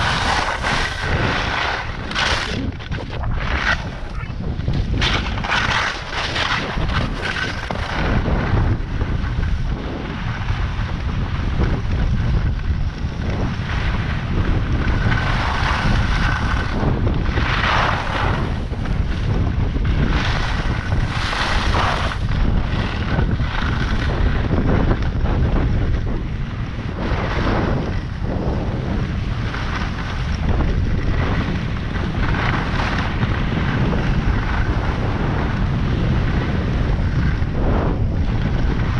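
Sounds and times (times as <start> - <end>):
skis scraping on snow: 0.0 - 38.9
wind buffeting microphone: 0.0 - 38.9.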